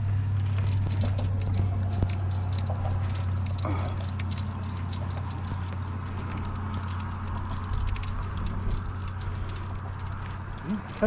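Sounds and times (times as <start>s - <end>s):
steady low hum: 0.0s - 11.0s
fishing reel clicking: 0.5s - 11.0s.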